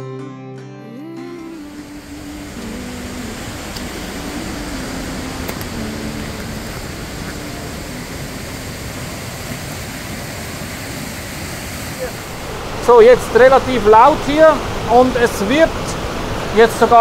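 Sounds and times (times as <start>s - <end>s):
water rushing along stone channel: 1.5s - 17.0s.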